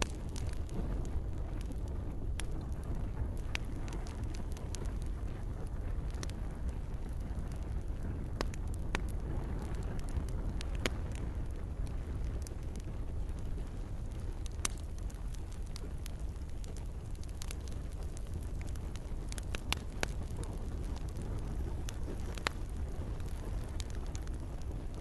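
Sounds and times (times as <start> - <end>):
campfire wood popping: 0.0 - 25.0
low rumble of flames: 0.0 - 25.0.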